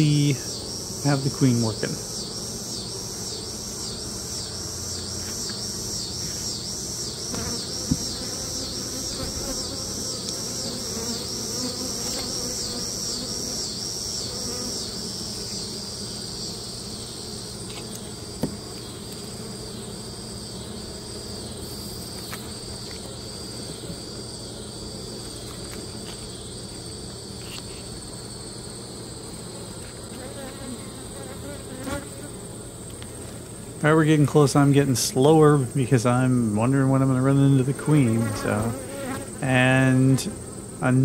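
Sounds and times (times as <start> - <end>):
honey bees buzzing: 0.0 - 41.0.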